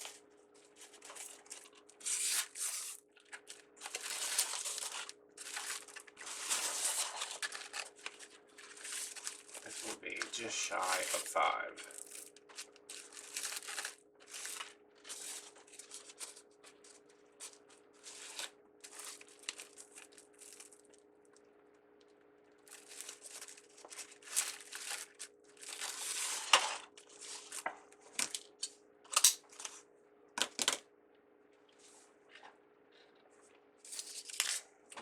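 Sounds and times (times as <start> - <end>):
ribbon crinkling and rustling: 0.0 - 21.1, 22.5 - 30.6, 31.7 - 35.0.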